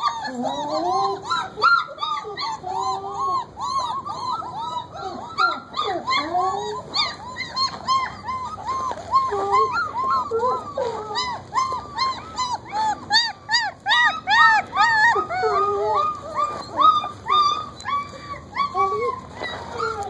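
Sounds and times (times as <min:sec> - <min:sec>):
puppies whimpering and whining: 0:00.0 - 0:20.0.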